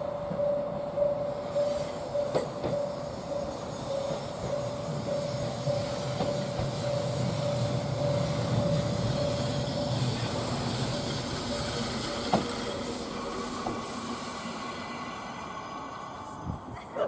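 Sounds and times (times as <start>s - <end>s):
electric train whine and rumble: 0.0s - 17.0s.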